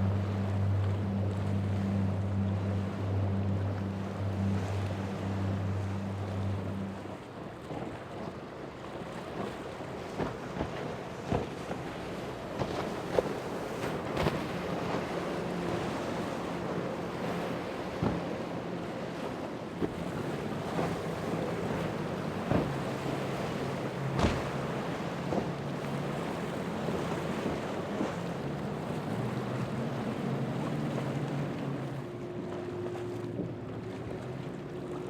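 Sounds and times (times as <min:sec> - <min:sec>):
boat engine droning: 0:00.0 - 0:35.0
waves washing: 0:00.0 - 0:35.0.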